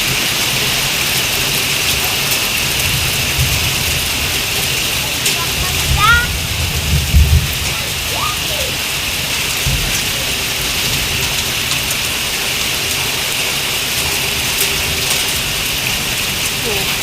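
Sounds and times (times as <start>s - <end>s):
heavy rain falling: 0.0s - 17.0s
low thunder rumble: 0.0s - 17.0s
raindrops ticking: 0.0s - 17.0s.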